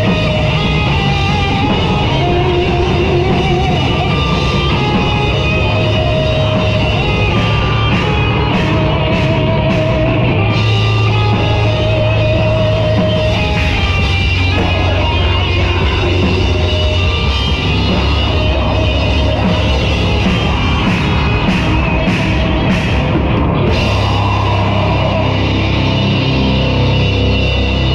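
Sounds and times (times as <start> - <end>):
bass guitar: 0.0 - 27.9
distorted electric guitar: 0.0 - 27.9
drums: 0.0 - 27.9.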